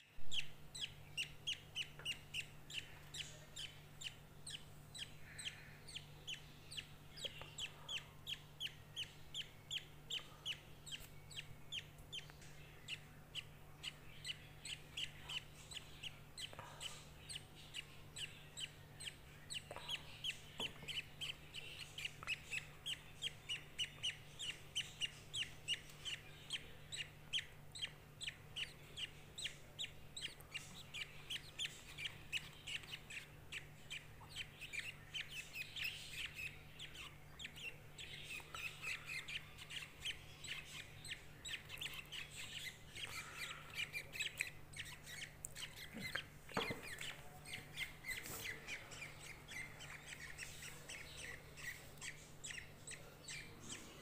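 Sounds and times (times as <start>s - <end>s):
chicks cheeping: 0.0s - 54.0s
faint low hum: 0.0s - 54.0s.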